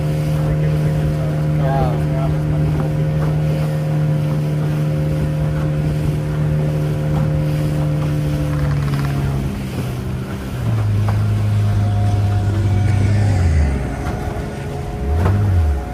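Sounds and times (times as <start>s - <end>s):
motorboat engine running: 0.0s - 15.9s.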